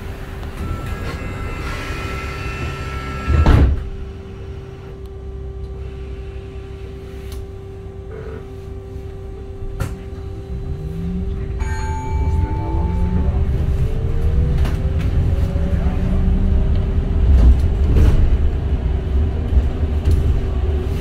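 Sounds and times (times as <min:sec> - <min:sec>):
electric bus drive hum: 0:00.0 - 0:21.0.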